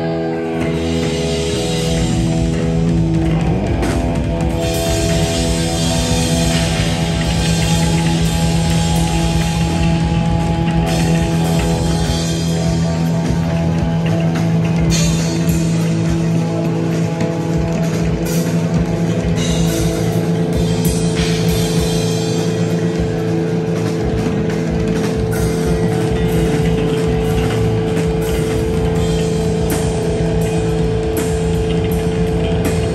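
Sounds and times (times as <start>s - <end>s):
metal band playing live: 0.0s - 32.9s.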